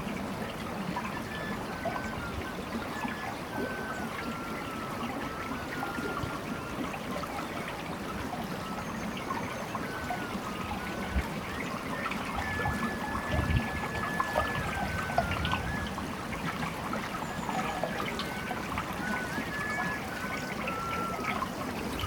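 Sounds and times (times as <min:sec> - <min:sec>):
water trickling and splashing: 0:00.0 - 0:22.0
water drips and plops: 0:00.2 - 0:22.0.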